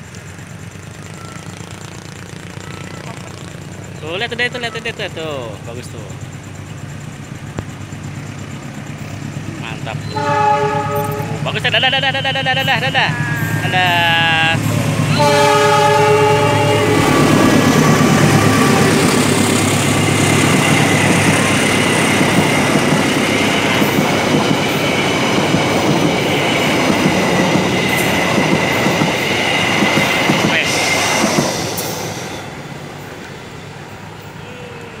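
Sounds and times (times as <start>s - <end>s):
high-pitched whine: 0.0s - 35.0s
train engine and wheels rumble: 0.0s - 35.0s.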